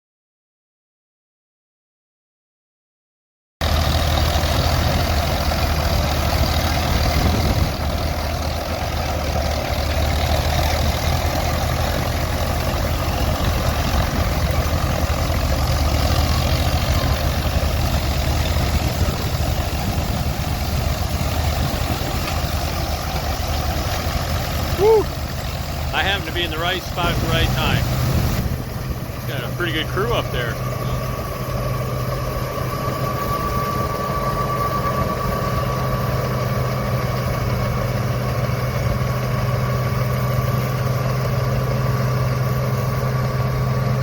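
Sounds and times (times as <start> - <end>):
combine harvester mechanical running: 3.6 - 44.0
tractor engine running under load: 3.6 - 44.0.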